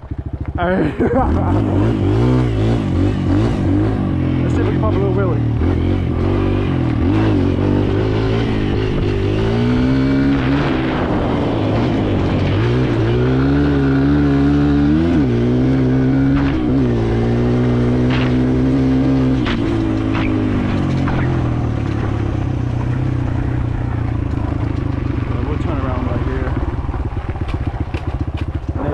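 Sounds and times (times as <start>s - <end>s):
dirt bike engine accelerating: 0.0s - 28.9s.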